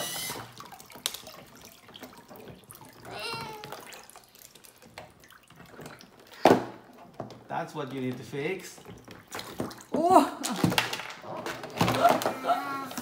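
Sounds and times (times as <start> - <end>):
water sloshing in a plastic tub: 0.0 - 13.0.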